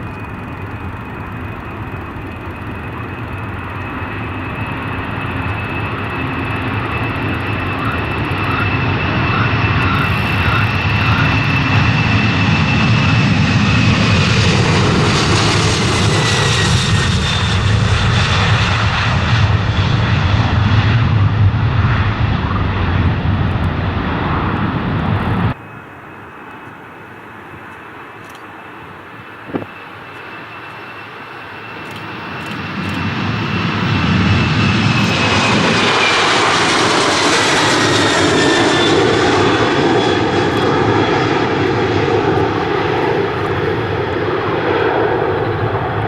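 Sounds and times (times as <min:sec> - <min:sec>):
jet airliner engines passing: 0:00.0 - 0:46.0.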